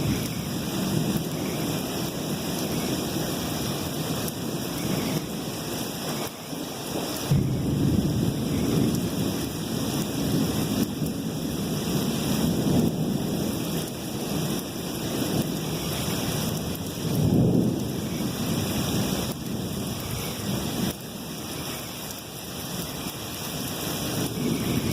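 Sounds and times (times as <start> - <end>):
rolling thunder: 0.0 - 21.7, 23.9 - 24.9
steady rain falling: 0.0 - 24.9.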